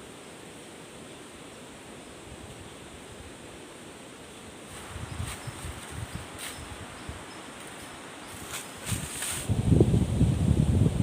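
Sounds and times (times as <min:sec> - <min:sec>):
forest ambience rushing hiss: 0:00.0 - 0:11.0.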